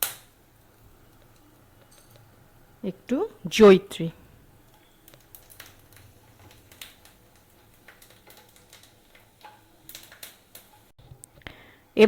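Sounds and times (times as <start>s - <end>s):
oil crackling and popping: 0.0s - 3.5s, 4.1s - 12.0s
spices frying in hot oil: 0.0s - 12.0s.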